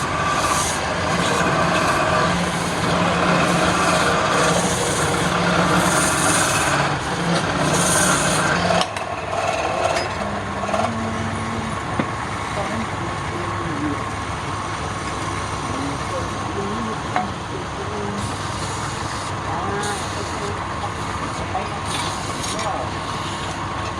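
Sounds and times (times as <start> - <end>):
tool cutting spinning wood: 0.0 - 17.3, 18.1 - 23.9
wood lathe motor hum: 0.0 - 23.9.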